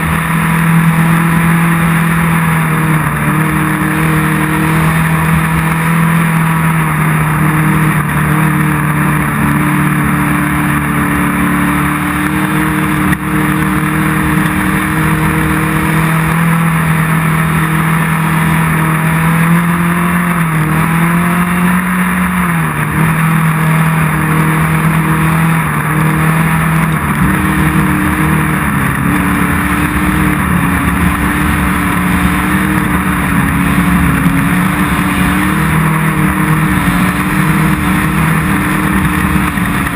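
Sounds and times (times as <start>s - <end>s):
race vehicle engine running hard: 0.0s - 39.9s
wind and road noise: 0.0s - 39.9s.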